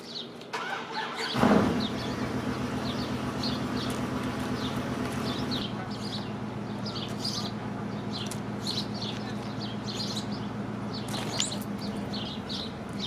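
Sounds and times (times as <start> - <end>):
songbirds chirping: 0.0 - 13.0
engine idling hum: 0.6 - 13.0.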